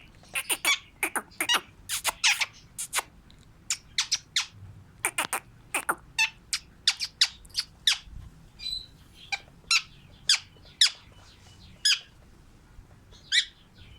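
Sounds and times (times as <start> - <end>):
lovebirds chirping shrilly: 0.0 - 3.1, 3.7 - 12.1
soft bird chattering: 0.0 - 3.1, 3.7 - 12.2.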